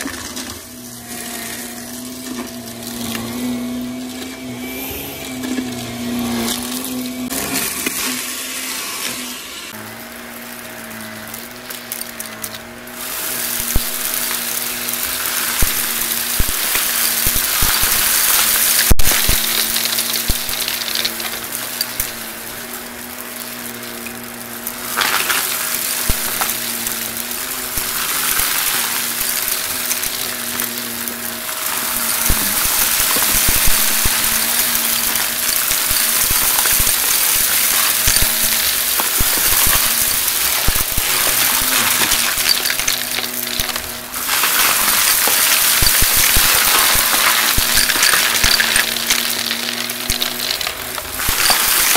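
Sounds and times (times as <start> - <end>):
debris crackling through nozzle: 0.0 - 51.9
vacuum cleaner humming: 0.0 - 51.9.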